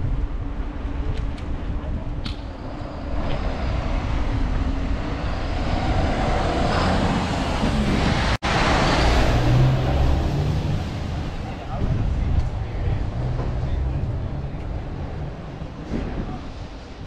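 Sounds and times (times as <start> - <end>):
wind rumble on microphone: 0.0 - 17.0
truck diesel engine approaching: 2.6 - 16.6.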